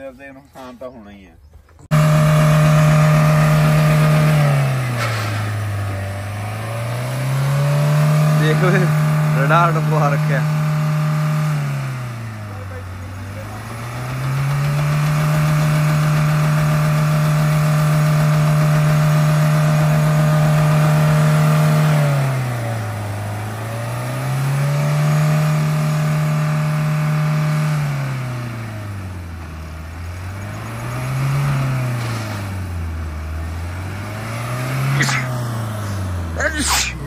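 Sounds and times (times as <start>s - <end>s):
engine revving: 1.8s - 37.0s.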